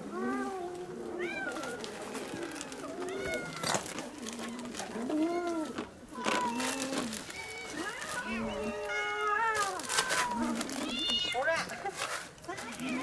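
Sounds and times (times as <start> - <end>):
cats meowing: 0.0 - 11.8.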